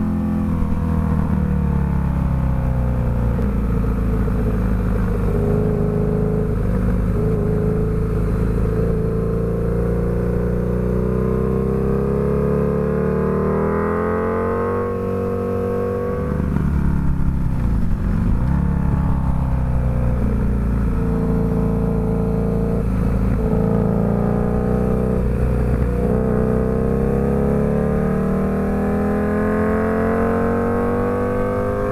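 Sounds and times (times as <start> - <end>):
motorcycle engine at speed: 0.0 - 31.9.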